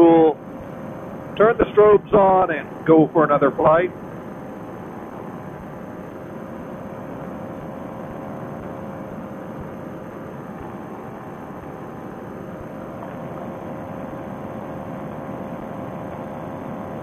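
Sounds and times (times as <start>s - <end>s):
paramotor engine and propeller hum: 0.0s - 17.0s.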